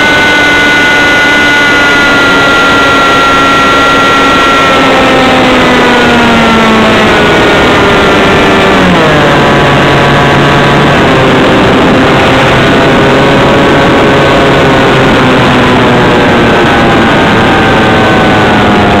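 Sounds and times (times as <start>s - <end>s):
model aircraft engine running: 0.0s - 19.0s.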